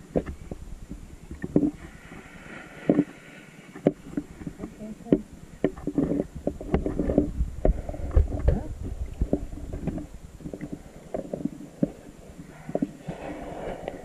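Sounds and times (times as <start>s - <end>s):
muffled underwater water movement: 0.0s - 14.0s.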